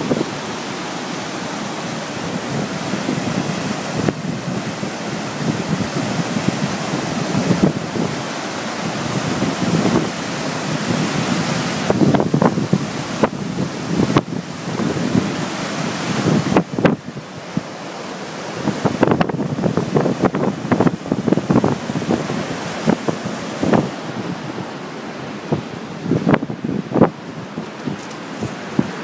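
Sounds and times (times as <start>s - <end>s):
water rushing over a weir: 0.0s - 29.0s
wind buffeting microphone: 0.0s - 29.0s.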